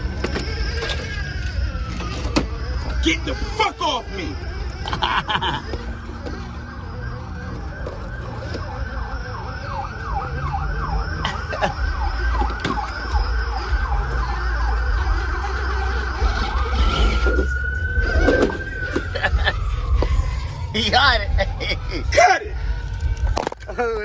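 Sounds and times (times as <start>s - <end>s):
emergency siren: 0.0s - 24.0s.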